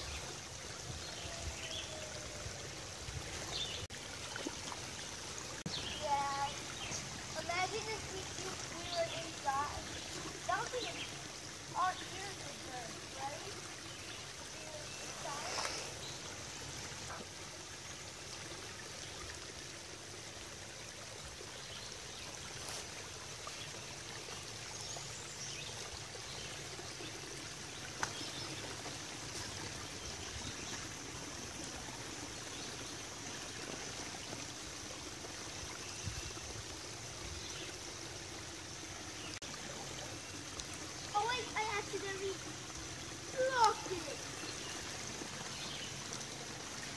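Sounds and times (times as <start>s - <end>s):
creek trickling over rocks: 0.0s - 46.9s.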